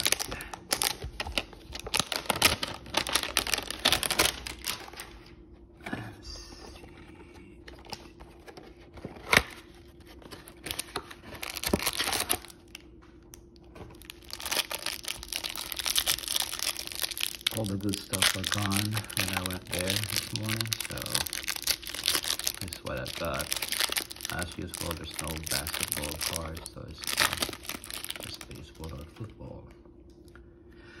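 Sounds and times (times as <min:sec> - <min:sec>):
plastic wrapper crinkling: 0:00.0 - 0:05.3, 0:07.6 - 0:29.3.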